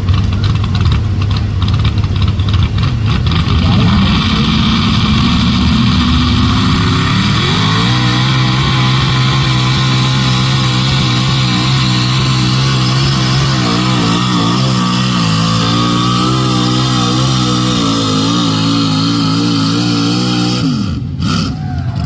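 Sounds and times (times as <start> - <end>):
tractor engine revving under load: 2.6 - 21.6.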